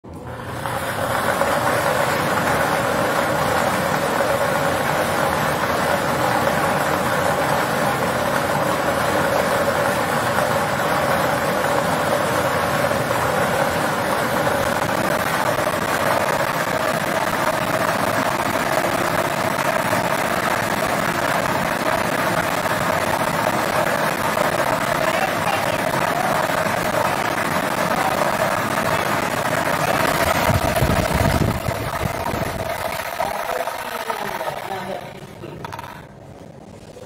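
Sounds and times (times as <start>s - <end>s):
air blower running: 0.0s - 36.3s
plastic balls tumbling: 0.4s - 37.0s.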